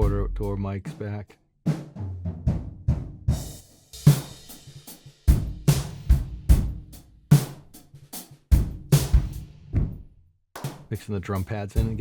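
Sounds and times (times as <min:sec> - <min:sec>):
drum kit groove: 0:00.0 - 0:12.0.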